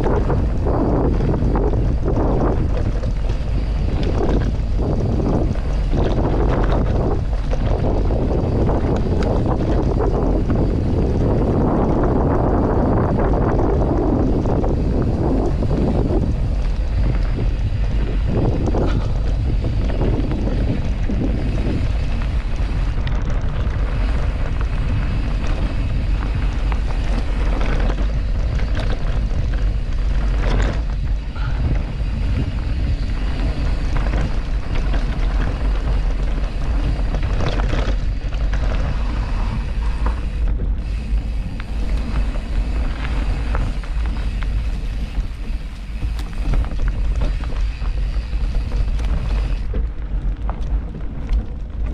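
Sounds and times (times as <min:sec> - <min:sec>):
bike rumbling over trail: 0:00.0 - 0:51.9
wind buffeting microphone: 0:00.0 - 0:51.9.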